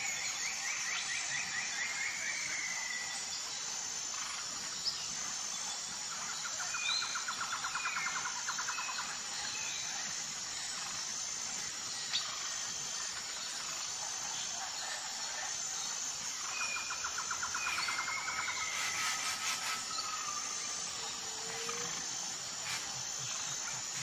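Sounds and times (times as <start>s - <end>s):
high background hiss: 0.0s - 24.0s.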